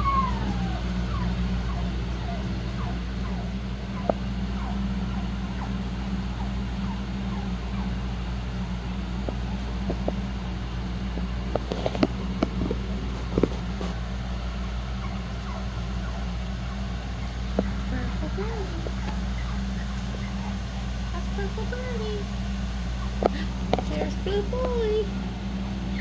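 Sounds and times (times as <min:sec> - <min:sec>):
puppies whimpering and whining: 0:00.0 - 0:25.0
steady low hum: 0:00.0 - 0:26.0.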